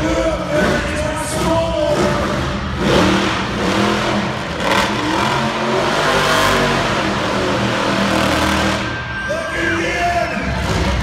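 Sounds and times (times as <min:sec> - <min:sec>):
truck engine revving hard: 0:00.0 - 0:09.2, 0:10.4 - 0:11.0.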